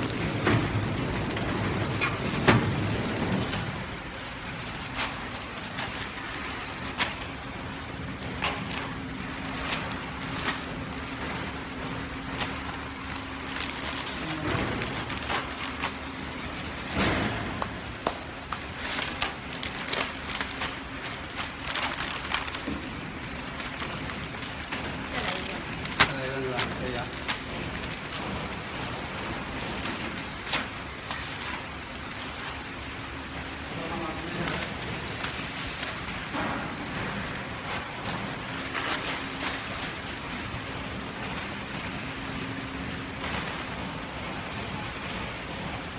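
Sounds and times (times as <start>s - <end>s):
packaging machine humming: 0.0s - 45.9s.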